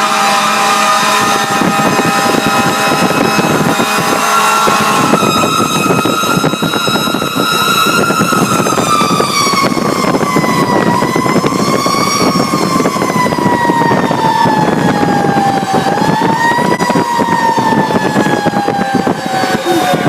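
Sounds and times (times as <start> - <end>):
fire truck siren: 0.0 - 20.0
truck engine and road noise: 0.0 - 20.0.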